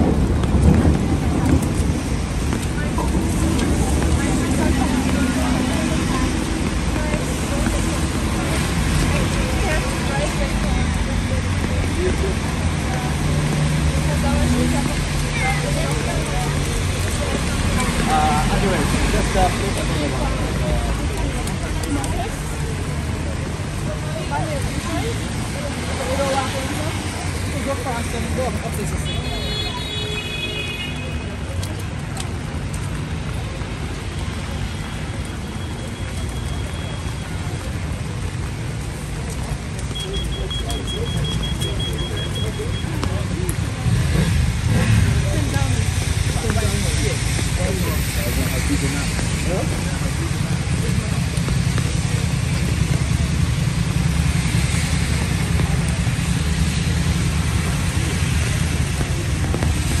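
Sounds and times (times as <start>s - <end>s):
low traffic rumble: 0.0s - 60.0s
rain hissing on wet roads: 0.0s - 60.0s.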